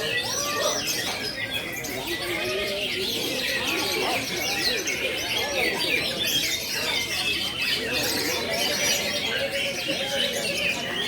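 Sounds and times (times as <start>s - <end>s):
many birds singing: 0.0s - 11.0s.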